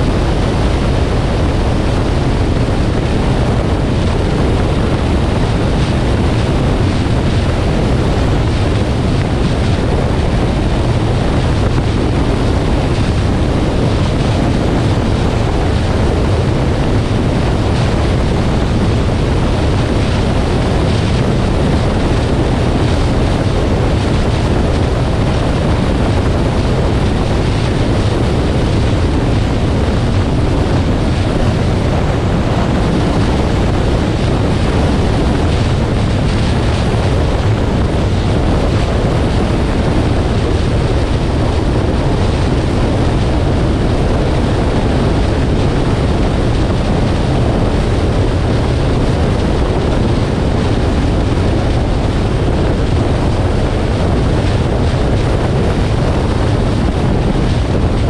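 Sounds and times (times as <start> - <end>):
car wind and road noise: 0.0 - 58.0.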